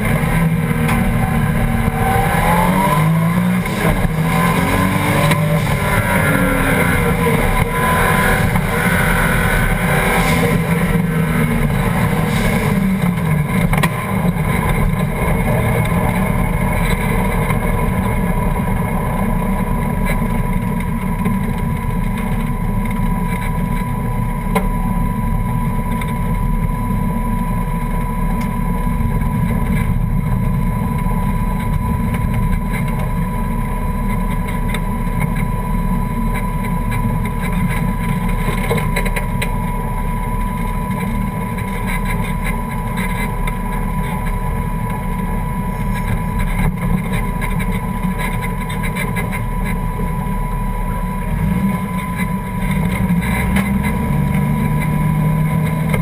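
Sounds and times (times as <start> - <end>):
car engine revving: 0.0 - 22.1, 29.1 - 56.0.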